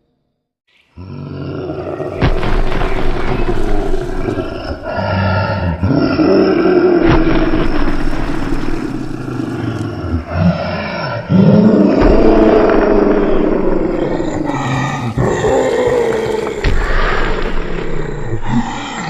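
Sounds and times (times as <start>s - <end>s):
creature roaring calls: 0.8s - 19.0s.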